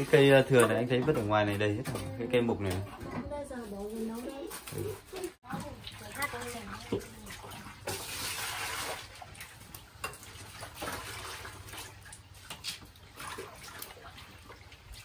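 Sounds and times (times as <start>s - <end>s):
water running and splashing: 0.0s - 2.8s, 3.6s - 15.0s.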